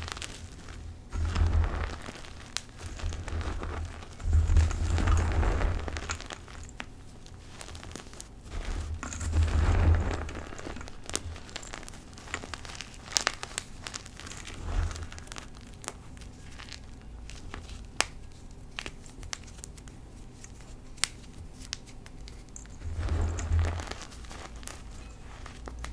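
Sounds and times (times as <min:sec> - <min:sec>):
hands crushing powdered chalk: 0:00.0 - 0:25.9.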